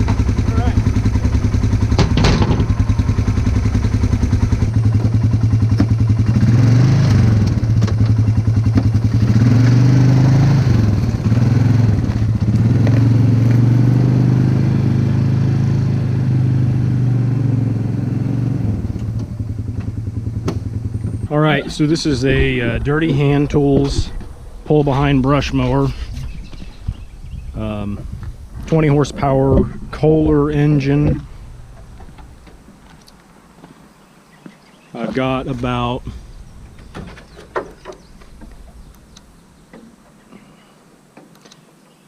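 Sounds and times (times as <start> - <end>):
engine running: 0.0 - 33.2, 35.0 - 40.5.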